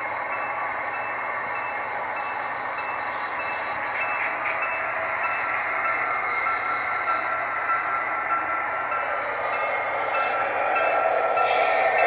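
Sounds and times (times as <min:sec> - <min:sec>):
model train motors whirring: 0:00.0 - 0:12.0.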